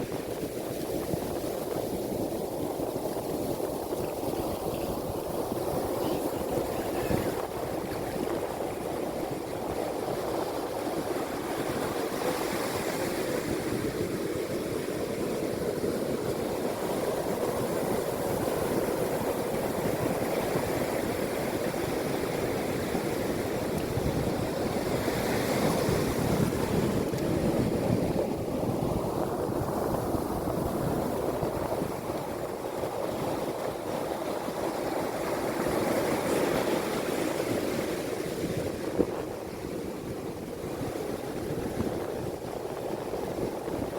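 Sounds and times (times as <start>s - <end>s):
sea waves breaking: 0.0s - 43.9s.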